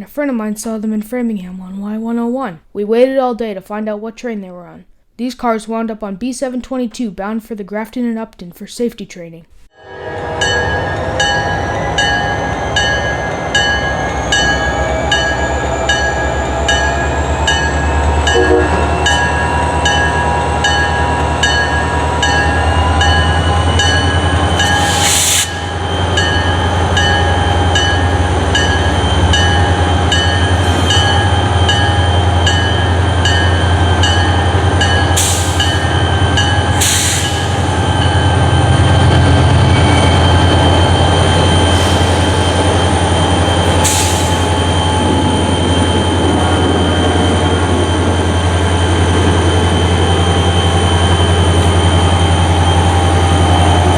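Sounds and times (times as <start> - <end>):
freight train rumbling: 10.0 - 53.9
train wheels squealing: 10.2 - 53.9.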